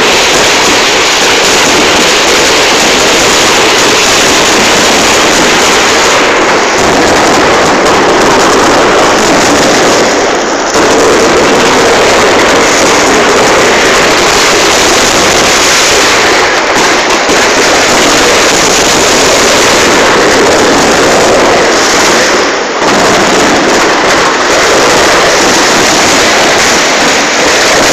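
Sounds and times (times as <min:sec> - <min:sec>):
fireworks bursting: 0:00.0 - 0:27.9.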